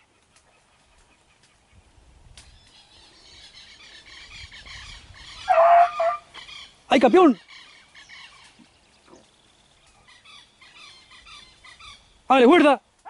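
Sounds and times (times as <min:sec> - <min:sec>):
birds chirping and twittering: 0:00.0 - 0:13.0
low rumble of wind: 0:00.0 - 0:13.0.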